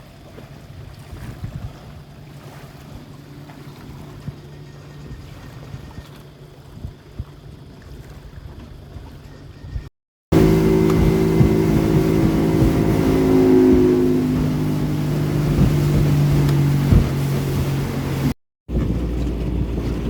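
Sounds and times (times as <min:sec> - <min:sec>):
motorboat engine: 0:00.0 - 0:20.0
wind noise on microphone: 0:00.7 - 0:03.0, 0:03.9 - 0:20.0.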